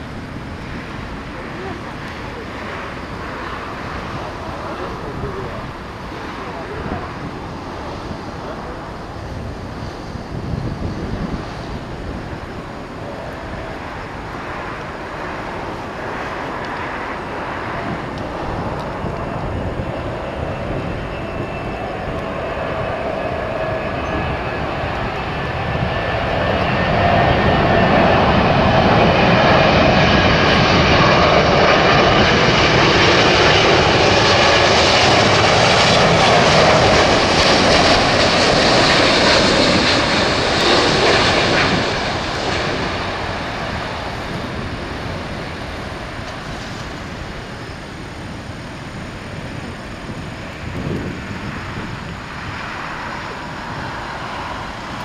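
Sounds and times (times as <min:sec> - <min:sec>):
jet airliner passing overhead: 0:00.0 - 0:55.0.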